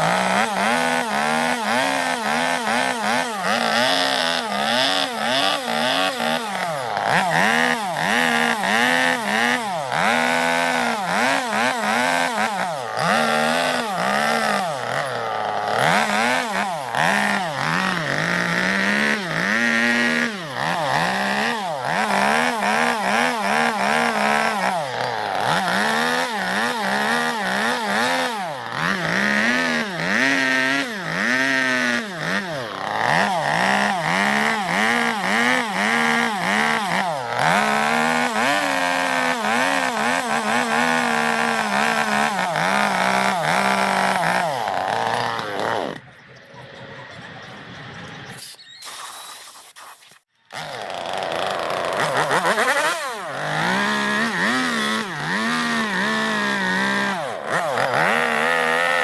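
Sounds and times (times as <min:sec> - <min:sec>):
chainsaw revving into wood: 0:00.0 - 0:46.1, 0:50.5 - 0:59.0.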